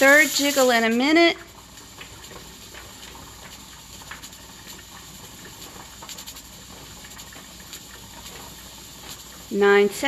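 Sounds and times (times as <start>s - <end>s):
pressure canner hissing and bubbling: 0.0s - 10.0s.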